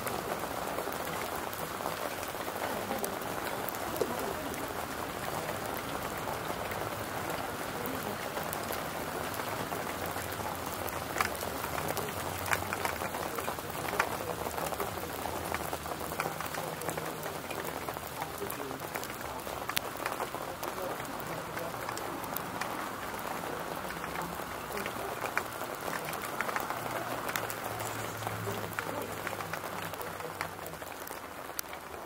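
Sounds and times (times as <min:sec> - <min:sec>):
hail pattering on asphalt: 0:00.0 - 0:32.0.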